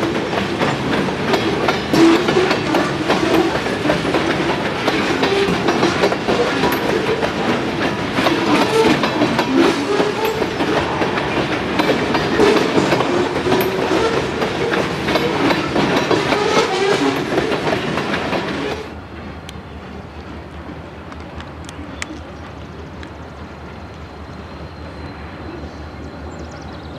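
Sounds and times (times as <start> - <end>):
train wheels clattering over rails: 0.0 - 25.1.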